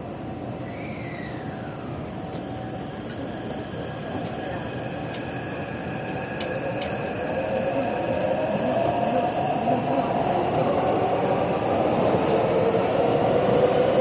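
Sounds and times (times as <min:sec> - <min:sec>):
metro train rumble: 0:00.0 - 0:14.0.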